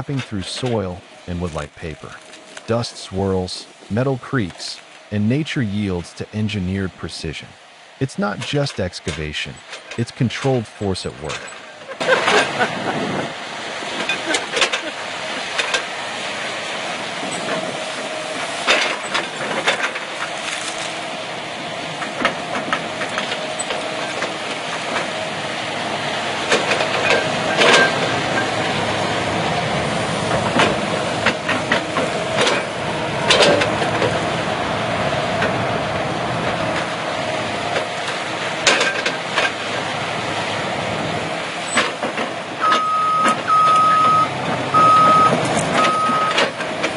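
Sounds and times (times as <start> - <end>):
heavy machinery engine running: 0.0 - 46.9.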